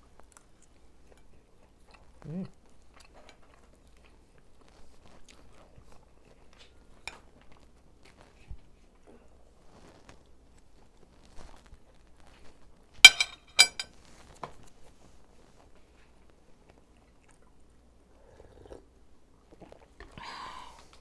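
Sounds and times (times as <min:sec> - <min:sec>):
faint chewing: 0:00.0 - 0:12.8, 0:13.9 - 0:21.0.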